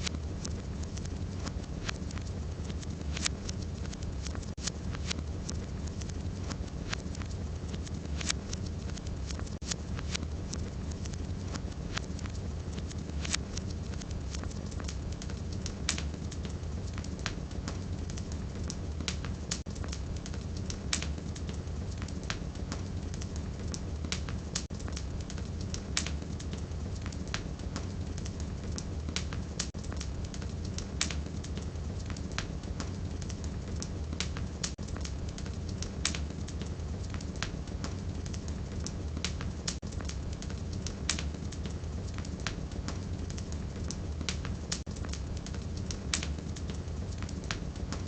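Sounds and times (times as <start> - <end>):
firewood crackling and popping: 0.0 - 48.0
low fire rumble: 0.0 - 48.0.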